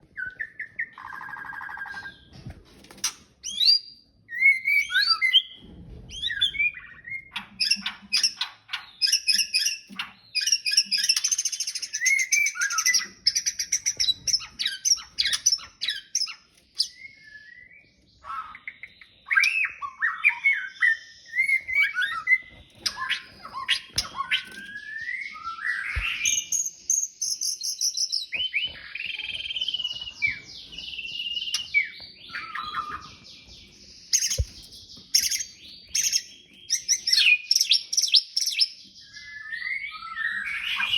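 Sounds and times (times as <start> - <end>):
bird singing: 3.4 - 5.6, 6.2 - 40.9.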